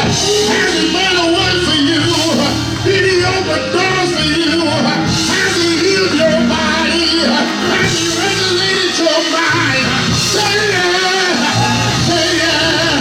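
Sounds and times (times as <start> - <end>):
church music with singing voices: 0.0 - 13.0.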